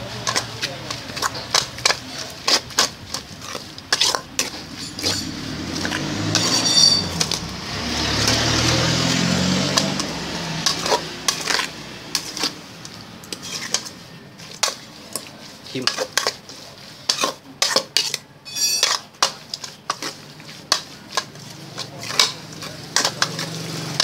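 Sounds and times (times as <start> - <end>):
spoon scraping a metal pot: 0.2 - 7.5, 10.0 - 12.6, 13.2 - 24.0.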